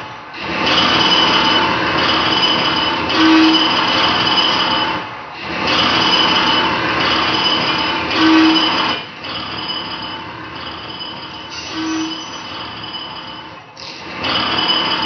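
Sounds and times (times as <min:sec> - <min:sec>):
harsh machine-like noise: 0:00.0 - 0:15.0
steady high tones: 0:00.8 - 0:05.1, 0:05.9 - 0:15.0.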